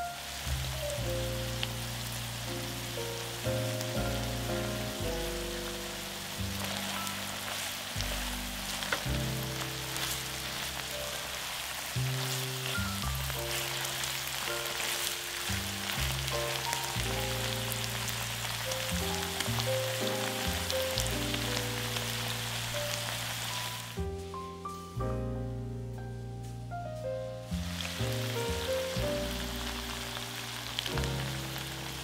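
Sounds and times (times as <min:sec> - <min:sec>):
food sizzling in hot oil: 0:00.0 - 0:24.9, 0:27.4 - 0:32.0
background music: 0:00.0 - 0:32.0.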